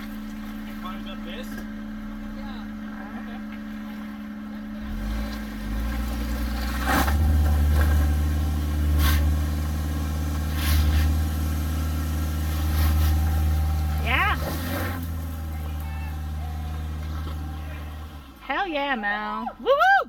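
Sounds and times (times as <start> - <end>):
car engine running hard: 0.0 - 19.8.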